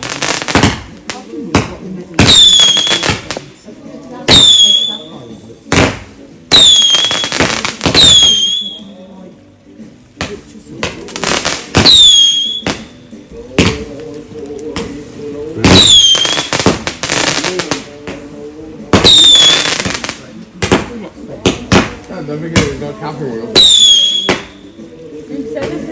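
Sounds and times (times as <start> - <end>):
fireworks bangs: 0.0 - 3.6, 4.2 - 8.9, 10.2 - 25.9.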